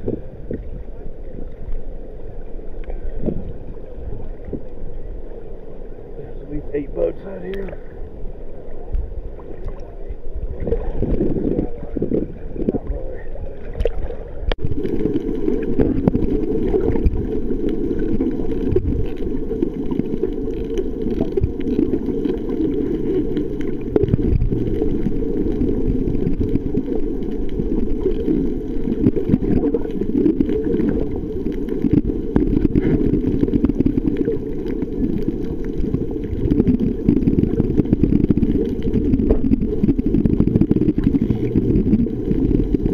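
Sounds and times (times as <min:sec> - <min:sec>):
muffled underwater water rushing: 0:00.0 - 0:42.9.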